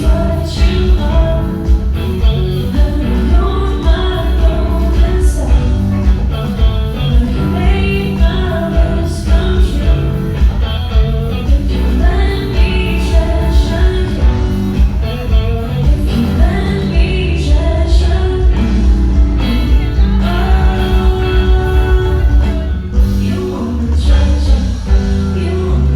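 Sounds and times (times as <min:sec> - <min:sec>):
guitar: 0:00.0 - 0:25.9
heavy bass beat: 0:00.0 - 0:25.9
person singing: 0:00.0 - 0:25.9.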